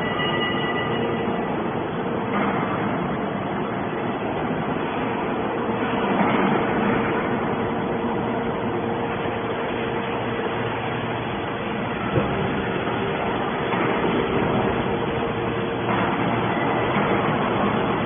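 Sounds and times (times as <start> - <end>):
hydraulic baler humming: 0.0 - 18.0.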